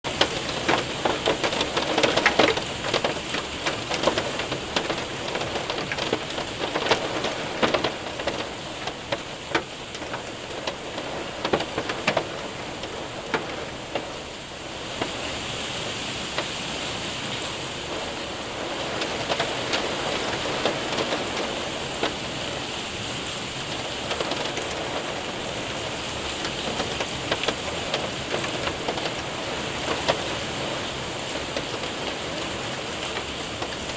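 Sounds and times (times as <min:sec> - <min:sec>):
hailstones ticking on window: 0:00.1 - 0:33.9
rain hiss: 0:00.1 - 0:33.9.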